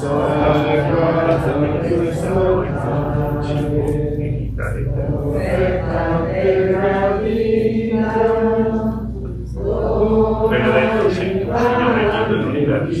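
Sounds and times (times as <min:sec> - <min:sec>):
voices singing a slow hymn: 0:00.0 - 0:13.0.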